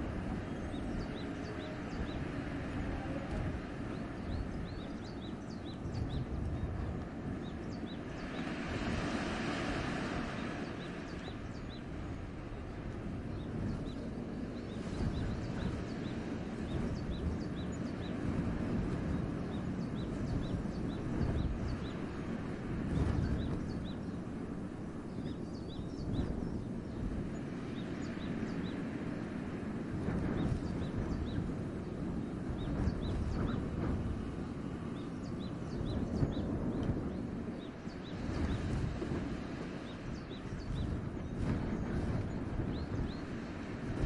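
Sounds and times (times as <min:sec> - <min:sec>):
wind gusting in forest: 0:00.0 - 0:44.0.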